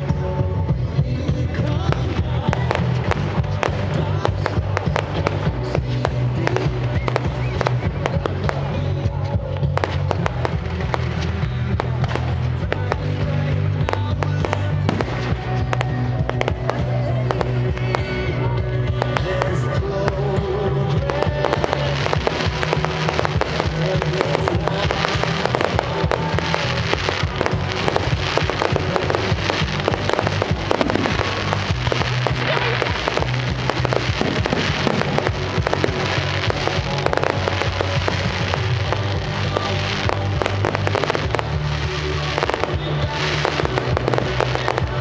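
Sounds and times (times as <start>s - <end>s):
fireworks bangs and pops: 0.0s - 45.0s
music playing: 0.0s - 45.0s.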